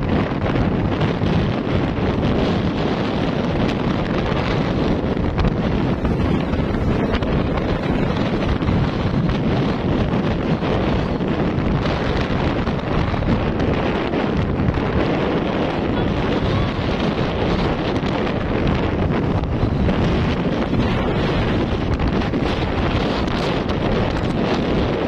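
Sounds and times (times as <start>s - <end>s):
wind buffeting a microphone: 0.0s - 25.0s.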